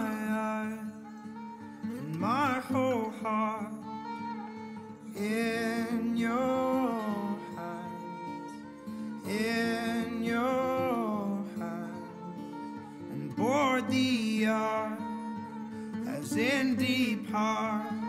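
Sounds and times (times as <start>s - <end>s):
acoustic guitar: 0.0s - 18.0s
person singing folk song: 0.0s - 18.0s.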